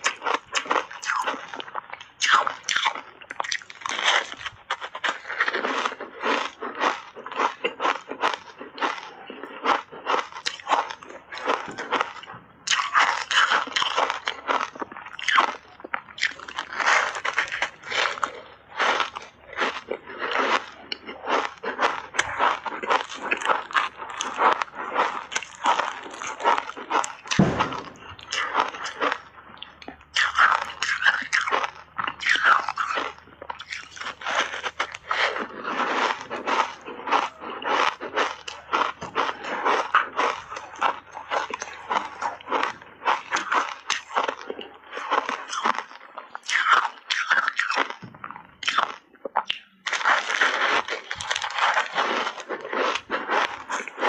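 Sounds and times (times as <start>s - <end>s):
crunching ice bar: 0.0s - 54.0s.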